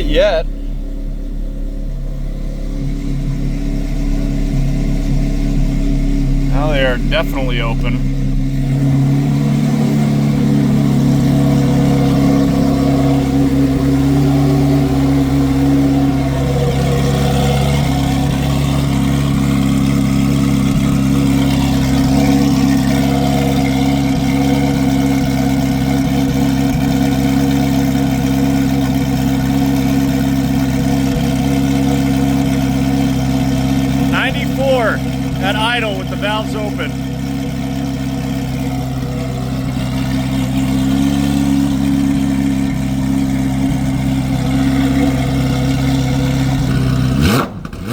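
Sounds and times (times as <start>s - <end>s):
sports car engine idling: 0.0s - 47.9s.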